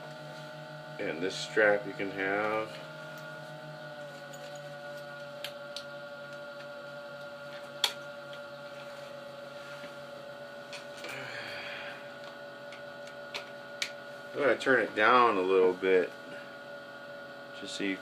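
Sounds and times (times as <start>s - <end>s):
guitar amplifier hum and buzz: 0.0s - 18.0s.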